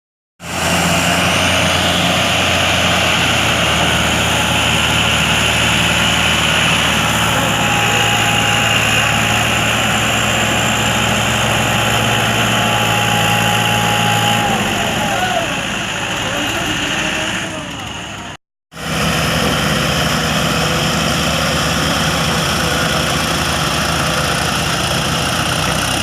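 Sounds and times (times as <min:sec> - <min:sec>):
tractor diesel engine running: 0:00.4 - 0:26.0.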